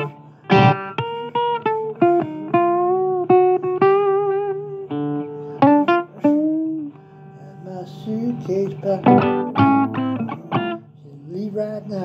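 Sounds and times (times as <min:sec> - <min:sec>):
blues guitar plucked notes: 0:00.0 - 0:12.0.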